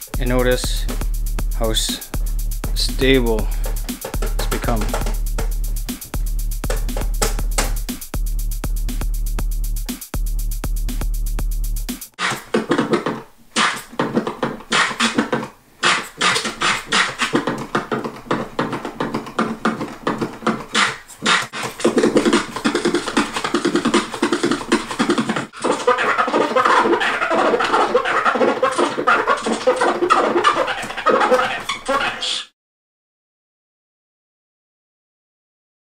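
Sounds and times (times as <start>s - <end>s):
vinyl record scratching: 0.0s - 32.5s.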